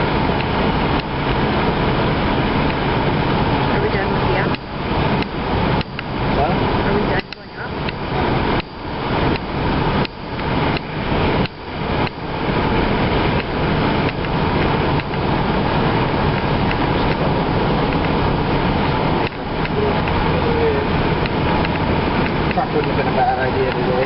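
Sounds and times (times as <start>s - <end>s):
road and engine noise inside car: 0.0s - 24.0s.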